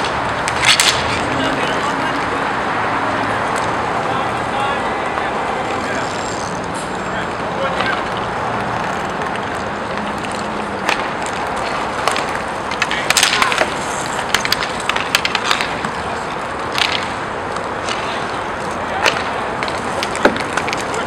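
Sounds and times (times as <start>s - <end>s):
sticks and puck clacking: 0.0s - 2.5s, 3.4s - 21.0s
inline skate wheels rushing: 0.0s - 21.0s.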